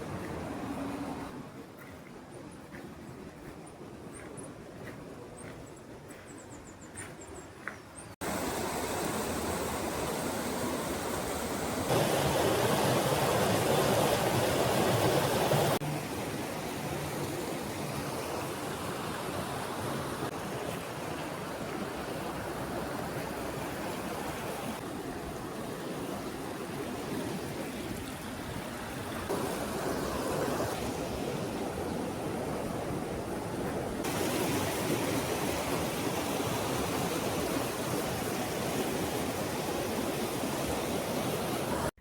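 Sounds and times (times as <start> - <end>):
flowing water rushing: 0.0 - 5.6, 8.2 - 42.0.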